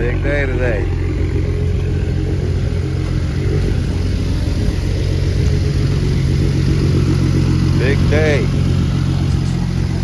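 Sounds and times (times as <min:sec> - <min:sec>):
car engine running steadily: 0:00.0 - 0:10.0.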